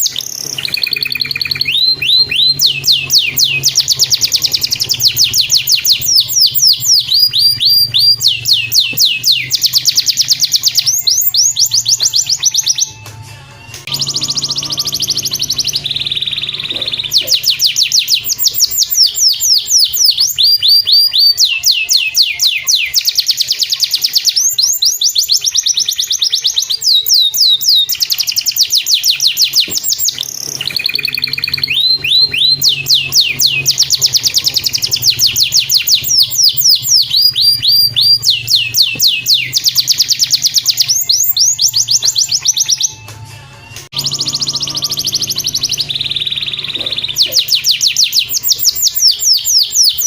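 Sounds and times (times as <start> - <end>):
canary singing trills: 0.0 - 50.0.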